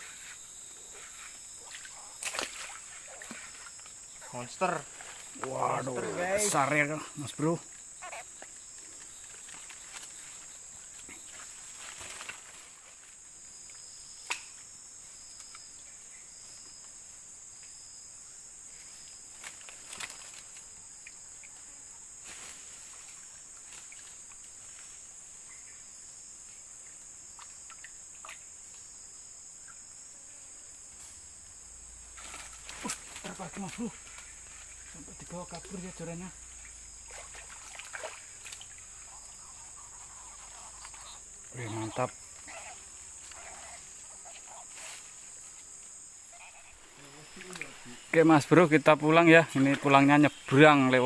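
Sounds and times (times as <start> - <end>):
insects shrilling: 0.0 - 16.8, 17.7 - 51.0.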